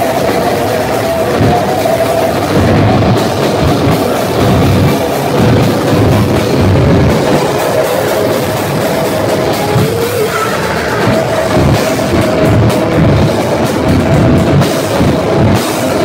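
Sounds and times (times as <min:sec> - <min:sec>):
distorted electric guitars: 0:00.0 - 0:16.0
heavy metal band playing live: 0:00.0 - 0:16.0
pounding drum kit: 0:00.0 - 0:16.0.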